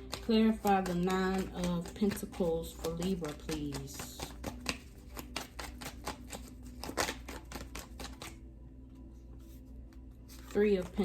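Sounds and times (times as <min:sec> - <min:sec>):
playing cards being shuffled: 0:00.0 - 0:11.0.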